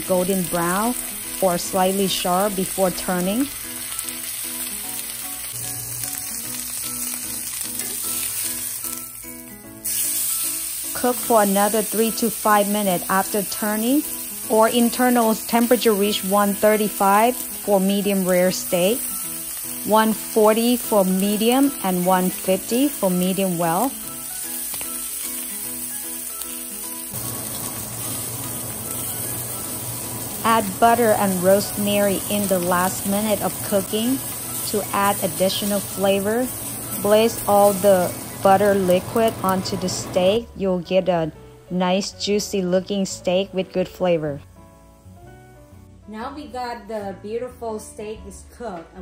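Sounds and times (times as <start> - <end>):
steak sizzling in a skillet: 0.0 - 40.4
soft background music: 0.0 - 49.0.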